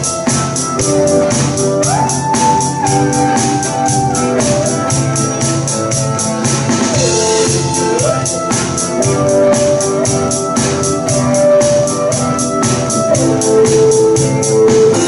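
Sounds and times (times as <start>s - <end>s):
drum beat: 0.0s - 15.0s
hi-hat ticking: 0.0s - 15.0s
organ keyboard chords: 0.0s - 15.0s.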